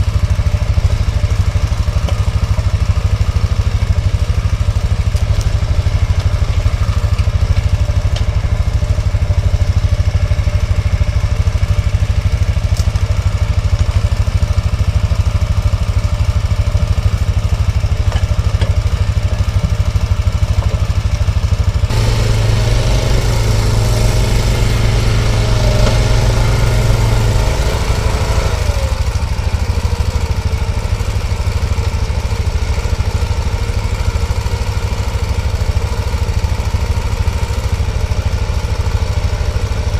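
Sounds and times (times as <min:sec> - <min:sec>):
another engine: 0:00.0 - 0:39.9
atv engine running: 0:00.0 - 0:39.9.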